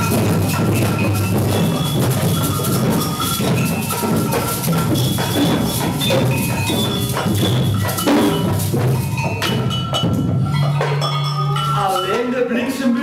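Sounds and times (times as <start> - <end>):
large metal drum: 0.0 - 12.1
bell-like tones: 0.0 - 13.0
samba percussion: 0.0 - 13.0.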